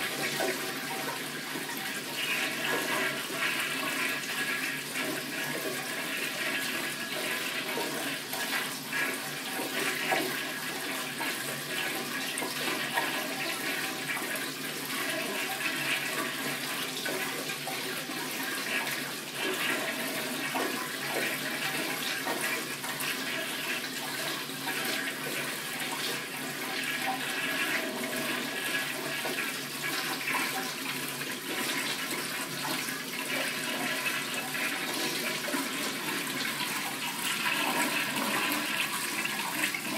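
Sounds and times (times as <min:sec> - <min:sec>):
toilet flushing continuously: 0:00.0 - 0:39.9.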